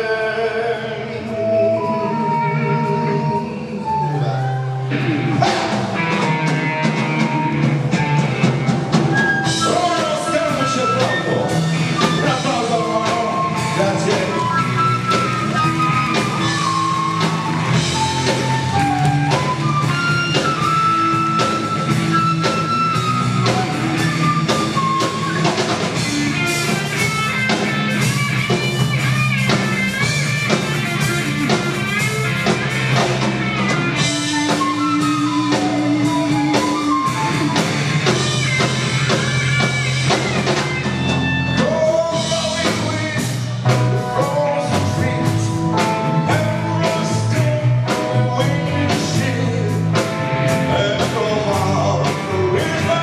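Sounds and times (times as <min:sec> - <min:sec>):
bass line: 0:00.0 - 0:53.0
drums: 0:00.0 - 0:53.0
flute melody: 0:01.0 - 0:43.4.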